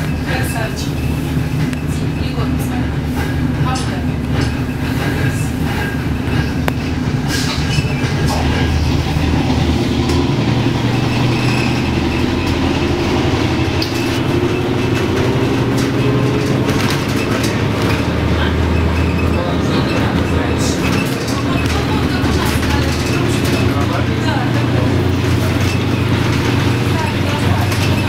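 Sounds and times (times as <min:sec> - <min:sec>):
bus body rattling: 0:00.0 - 0:28.0
bus engine deep hum: 0:00.0 - 0:28.0.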